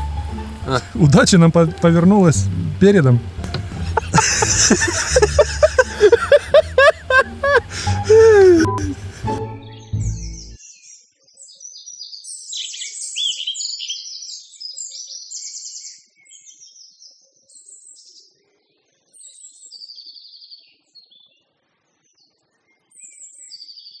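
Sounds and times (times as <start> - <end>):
songbirds trilling and chirping: 0.0 - 24.0.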